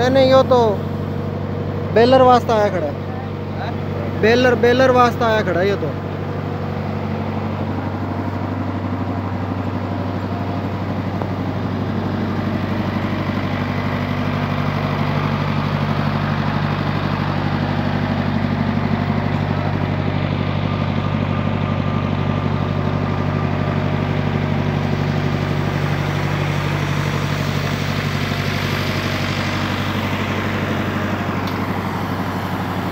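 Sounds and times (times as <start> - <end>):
engine running steadily: 0.0 - 32.9.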